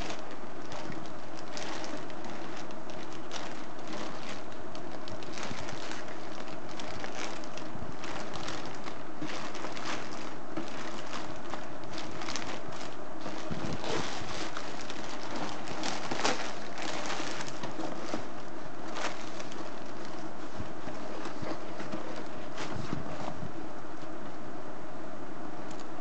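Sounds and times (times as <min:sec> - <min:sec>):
plastic bag crinkling and tearing: 0:00.0 - 0:23.4.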